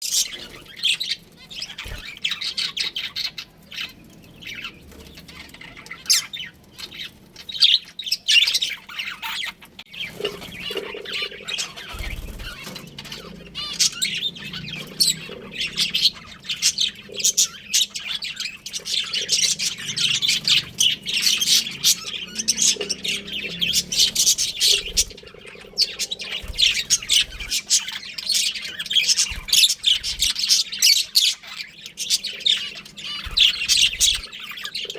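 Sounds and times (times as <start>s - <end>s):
budgerigars chirping and chattering: 0.0s - 34.9s.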